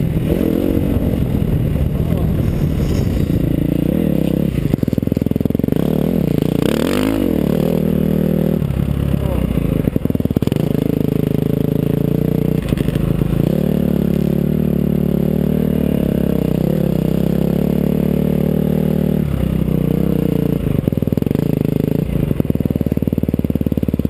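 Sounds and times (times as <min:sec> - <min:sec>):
motorcycle engine ridden hard: 0:00.0 - 0:24.0.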